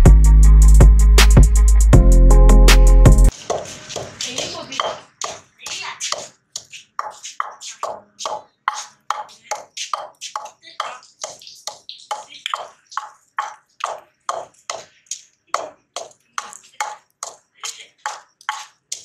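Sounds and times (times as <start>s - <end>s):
wooden pestle pounding in clay bowl: 3.3s - 19.0s.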